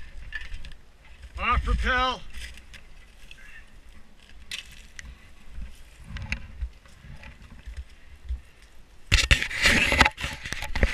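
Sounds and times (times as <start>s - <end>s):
crunching and scraping on snow: 0.0s - 10.9s.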